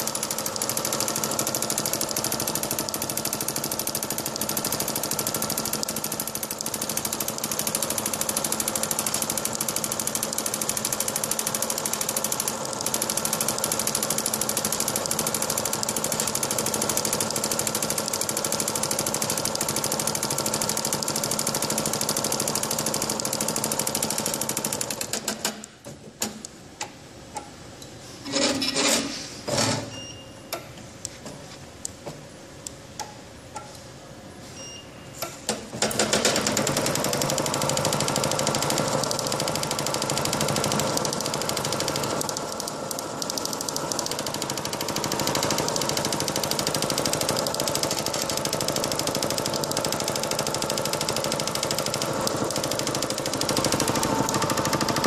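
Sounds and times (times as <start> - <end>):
machine rapid mechanical clatter: 0.0 - 26.4, 35.4 - 55.0
scattered clicks and knocks: 0.0 - 29.9, 35.2 - 55.0.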